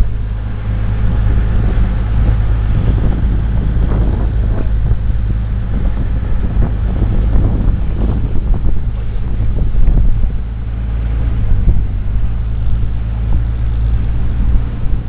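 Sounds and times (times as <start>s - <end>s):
boat engine droning: 0.0s - 15.0s
rush of air and water: 0.0s - 15.0s.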